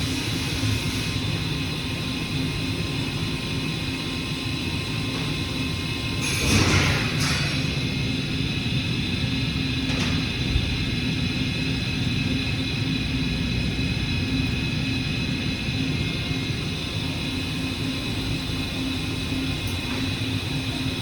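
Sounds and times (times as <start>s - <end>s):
milling machine humming: 0.0s - 21.0s.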